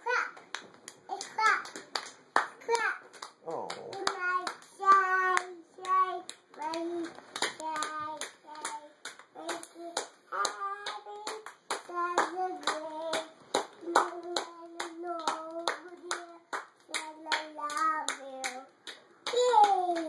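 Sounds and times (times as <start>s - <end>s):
hands clapping: 0.1s - 20.0s
toddler singing: 3.9s - 20.0s.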